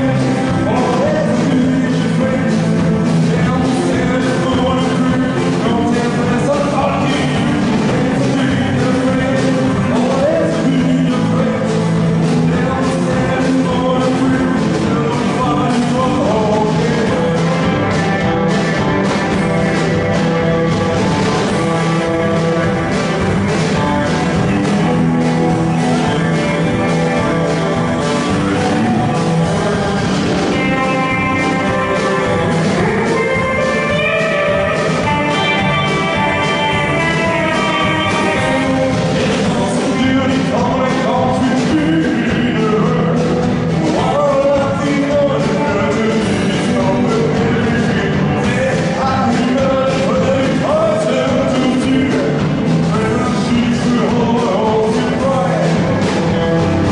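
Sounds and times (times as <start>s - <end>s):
person singing: 0.0s - 56.9s
rock band playing live: 0.0s - 56.9s
steady drumbeat: 0.0s - 56.9s.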